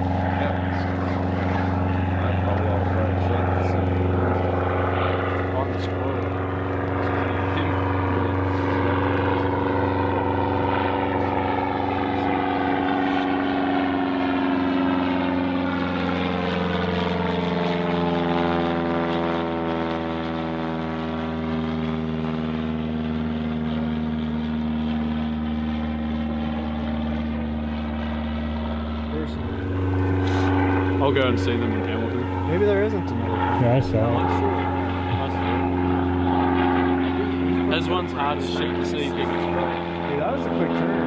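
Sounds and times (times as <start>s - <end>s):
propeller plane flying past: 0.0s - 41.0s.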